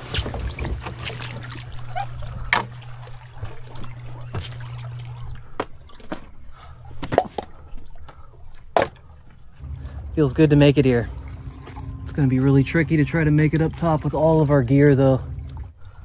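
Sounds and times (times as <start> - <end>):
low hum: 0.0 - 16.0
water trickling and splashing: 0.0 - 16.0.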